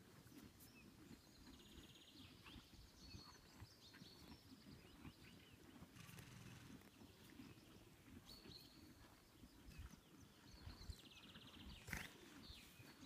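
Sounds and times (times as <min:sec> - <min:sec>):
faint bird song: 0:00.0 - 0:13.0.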